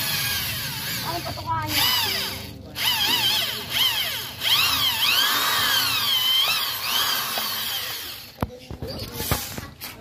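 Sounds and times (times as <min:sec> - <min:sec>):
electric drill boring wood: 0:00.0 - 0:08.5.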